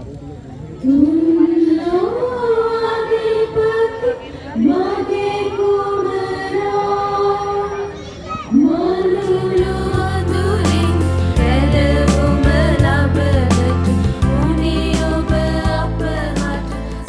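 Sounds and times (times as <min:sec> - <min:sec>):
slow hymn singing: 0:00.8 - 0:07.9, 0:08.5 - 0:17.0.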